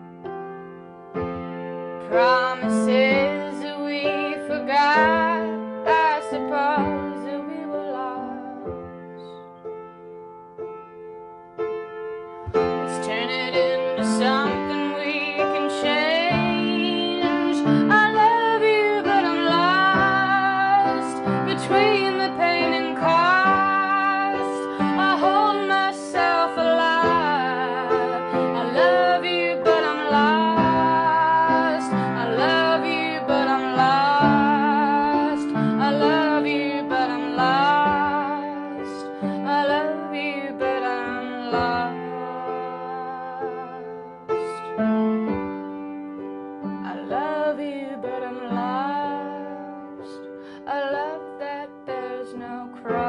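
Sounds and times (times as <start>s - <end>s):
piano playing slow chords: 0.0s - 53.0s
woman singing with vibrato: 2.0s - 9.3s, 12.6s - 44.8s, 46.6s - 53.0s.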